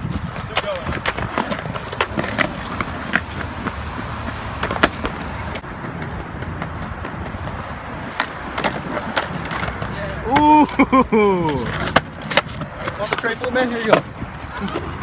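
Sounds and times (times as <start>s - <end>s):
skateboard wheels rolling on pavement: 0.0s - 15.0s.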